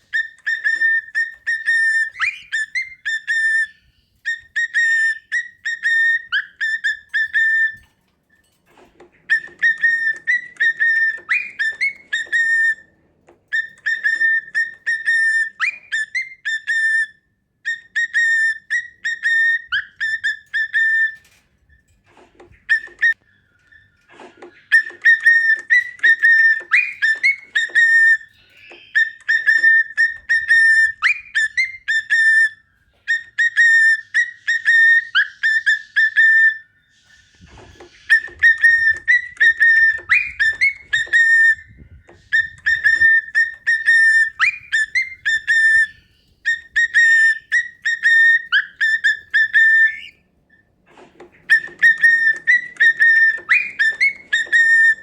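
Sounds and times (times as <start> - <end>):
cockatiel whistling: 0.0 - 7.9, 9.1 - 12.9, 13.5 - 21.4, 22.4 - 55.0.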